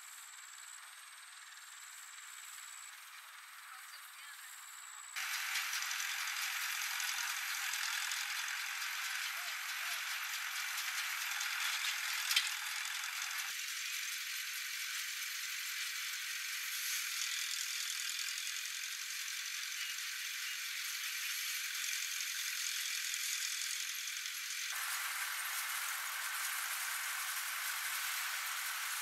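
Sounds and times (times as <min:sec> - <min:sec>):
threshing machine rattling hiss: 0:05.2 - 0:29.0.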